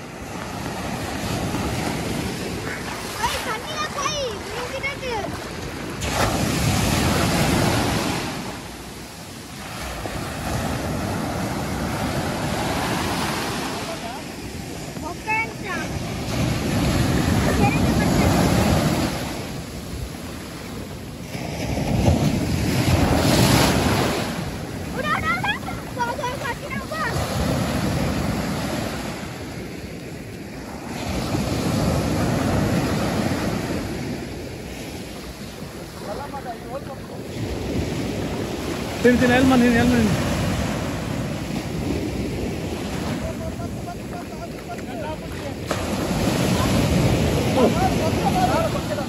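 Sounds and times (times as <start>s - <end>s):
ocean waves crashing on sand: 0.0s - 49.0s.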